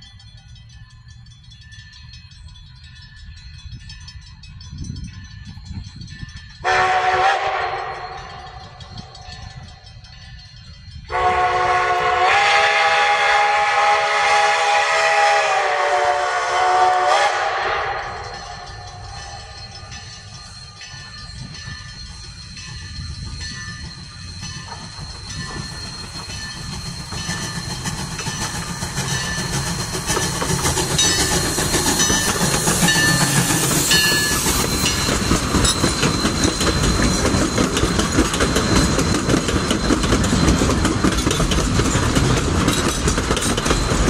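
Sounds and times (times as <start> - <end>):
steam train passing: 0.0 - 44.0
train wheels on rails: 0.0 - 44.0.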